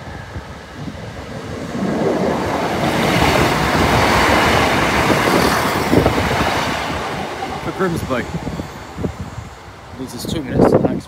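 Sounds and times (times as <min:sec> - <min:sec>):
diesel train passing: 0:00.0 - 0:11.0.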